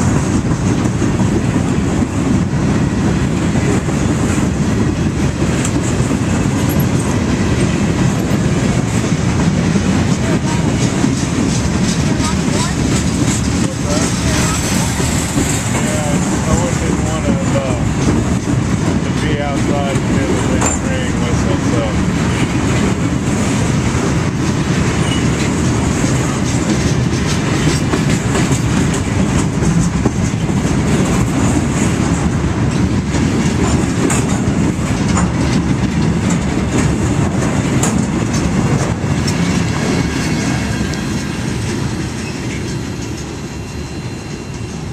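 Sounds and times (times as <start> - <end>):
train rumble: 0.0 - 44.9
train wheels clacking over rails: 0.0 - 44.9.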